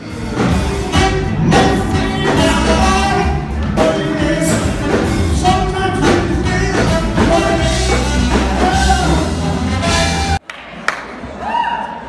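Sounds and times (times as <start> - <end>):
live jazz blues band: 0.0 - 10.4.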